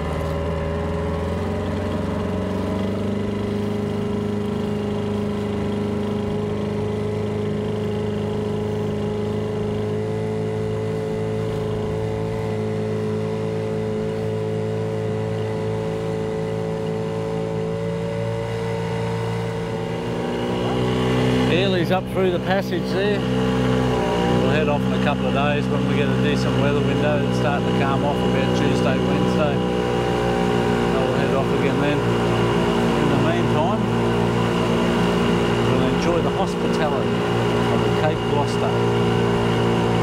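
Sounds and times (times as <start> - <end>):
small outboard motor running: 0.0 - 40.0.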